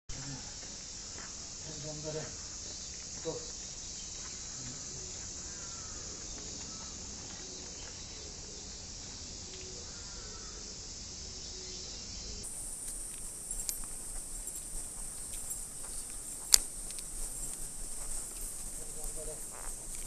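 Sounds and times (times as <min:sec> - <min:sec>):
cicadas singing: 0:00.1 - 0:20.0.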